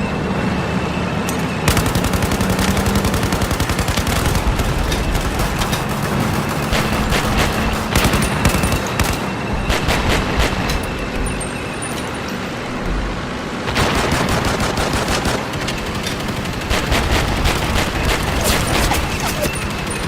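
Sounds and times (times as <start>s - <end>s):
constant rumble: 0.0s - 20.0s
machine-gun fire: 1.7s - 11.4s, 13.0s - 19.5s.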